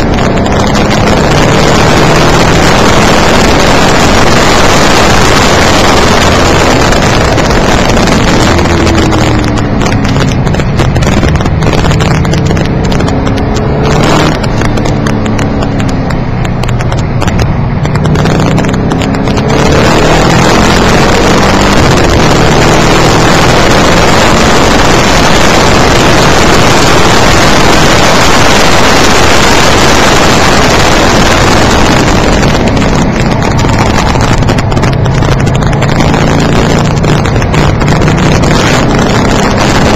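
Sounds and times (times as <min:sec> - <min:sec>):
car engine revving: 0:00.0 - 0:39.9
road noise rush: 0:00.0 - 0:39.9.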